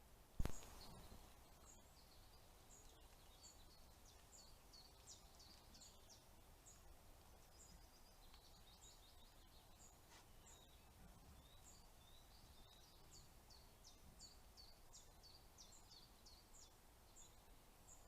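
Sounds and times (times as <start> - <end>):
steady hiss: 0.0 - 18.0
songbird calls: 0.4 - 18.0.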